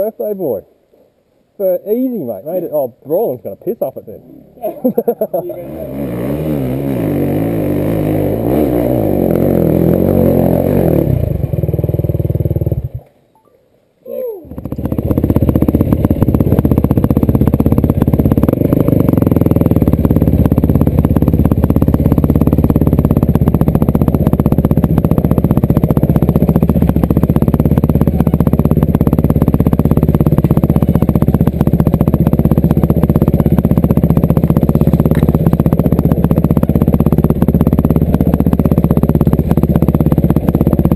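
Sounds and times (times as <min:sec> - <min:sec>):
motorcycle engine running steadily: 0:03.6 - 0:13.1, 0:14.4 - 0:40.9
dirt bike engines revving: 0:03.7 - 0:13.0, 0:14.4 - 0:40.9.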